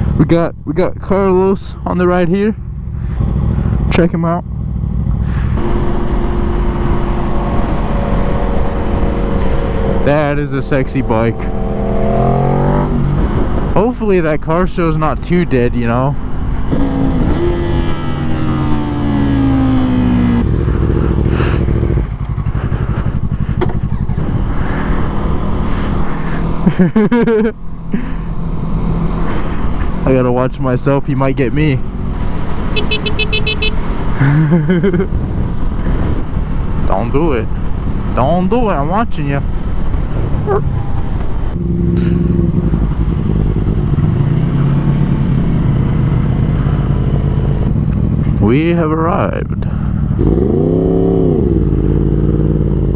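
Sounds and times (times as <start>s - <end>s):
motorcycle engine running: 0.0s - 13.8s, 16.1s - 38.0s, 39.5s - 52.9s.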